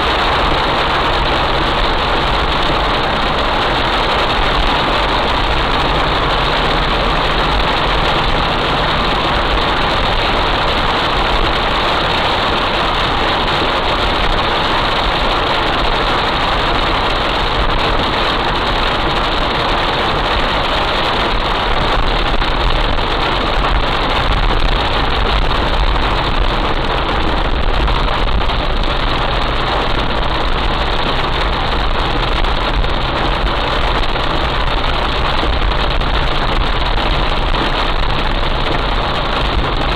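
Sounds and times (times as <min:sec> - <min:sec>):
heavy rain: 0:00.0 - 0:39.9
vehicle engine idling: 0:00.0 - 0:39.9.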